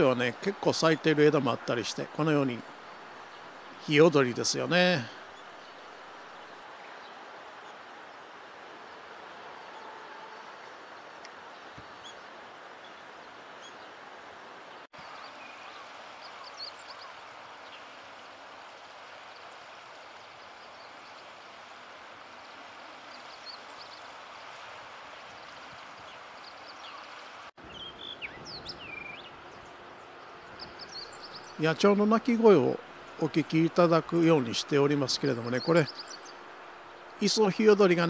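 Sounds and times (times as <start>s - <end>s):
outdoor background hiss: 0.0s - 38.0s
small birds chirping: 0.0s - 38.0s.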